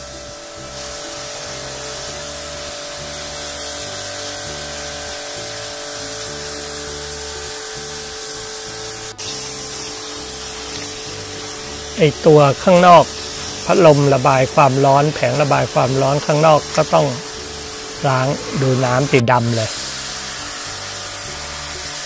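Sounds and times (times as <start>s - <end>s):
pressure washer spraying water: 0.0s - 22.0s.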